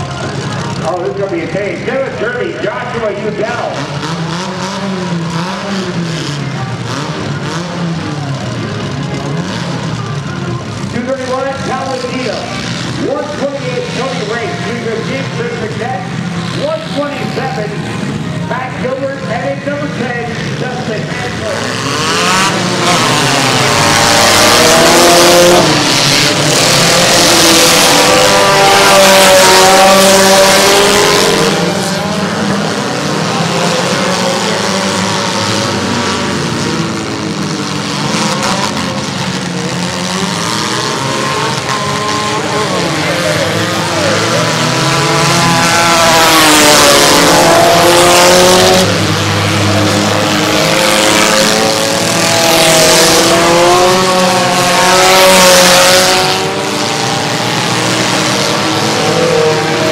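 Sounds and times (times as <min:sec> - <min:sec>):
car engines revving: 0:00.0 - 0:59.9
tires on dirt: 0:00.0 - 0:59.9.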